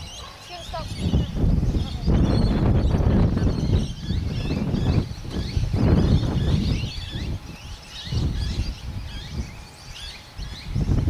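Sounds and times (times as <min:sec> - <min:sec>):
small birds chirping: 0:00.0 - 0:11.0
wind rumbling on microphone: 0:00.0 - 0:11.0.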